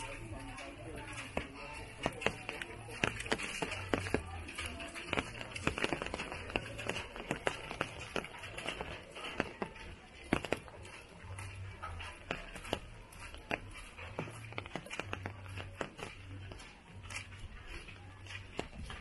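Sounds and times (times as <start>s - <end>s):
rain drops tapping: 1.0s - 16.6s.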